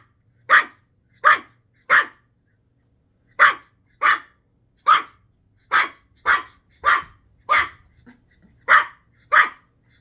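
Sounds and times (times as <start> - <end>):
puppy barking: 0.0 - 2.3, 3.3 - 9.7.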